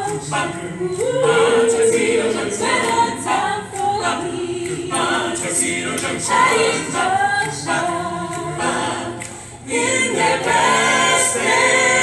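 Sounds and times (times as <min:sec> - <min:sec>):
mixed choir singing in harmony: 0:00.0 - 0:12.0.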